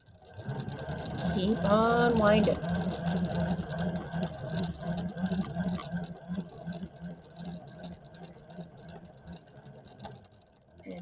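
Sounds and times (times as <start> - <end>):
yarn winder motor humming: 0.0 - 11.0.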